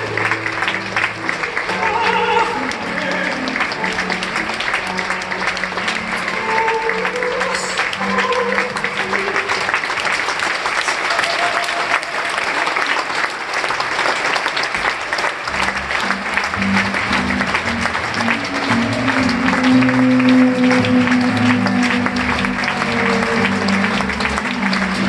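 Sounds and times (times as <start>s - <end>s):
music playing: 0.0s - 10.8s, 15.4s - 25.0s
audience applauding: 0.0s - 25.0s.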